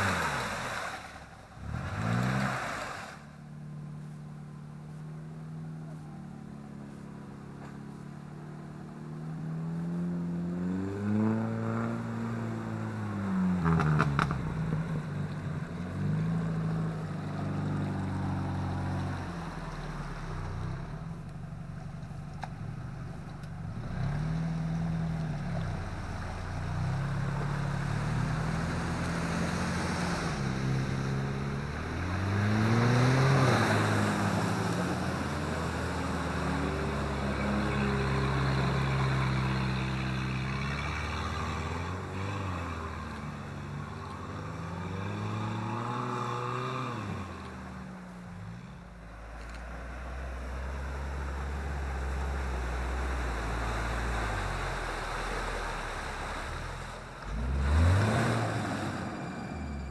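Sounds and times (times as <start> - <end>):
suv engine revving: 0.0 - 59.9.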